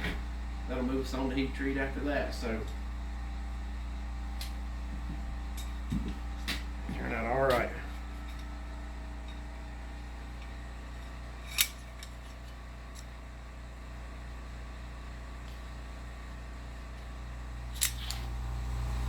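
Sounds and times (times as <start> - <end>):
workshop low hum: 0.0 - 19.0.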